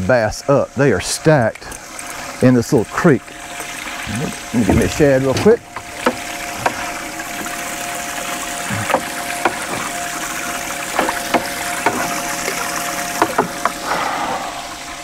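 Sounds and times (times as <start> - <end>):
aerator pump humming: 0.0 - 15.0
water splashing: 0.0 - 15.0.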